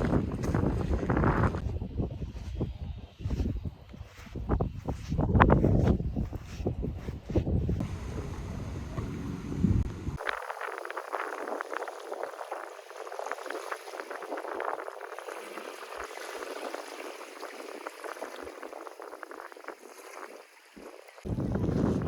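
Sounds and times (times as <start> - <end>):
seawater washing at shoreline: 3.2 - 22.0.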